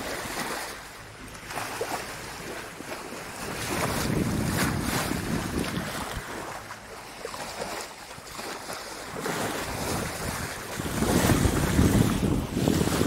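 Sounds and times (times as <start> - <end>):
water splashing along hull: 0.0 - 13.0
wind buffeting microphone: 1.6 - 6.7, 7.5 - 13.0.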